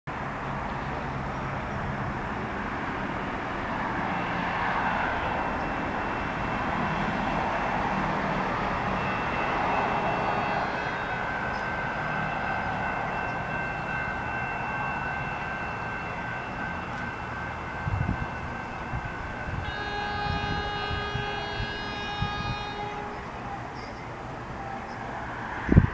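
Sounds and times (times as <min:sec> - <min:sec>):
diesel train engine humming: 0:00.1 - 0:25.9.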